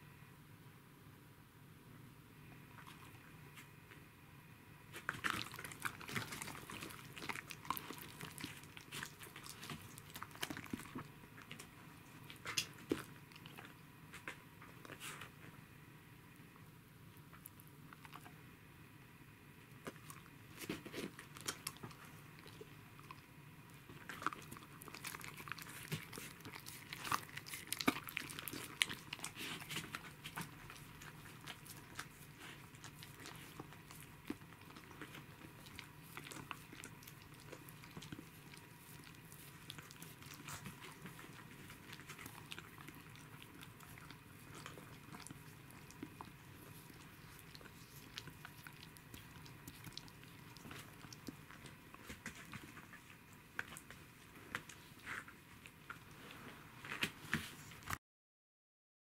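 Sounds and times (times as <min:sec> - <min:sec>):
dog chewing and smacking: 0:04.9 - 0:15.5, 0:17.1 - 0:18.4, 0:19.6 - 0:58.0.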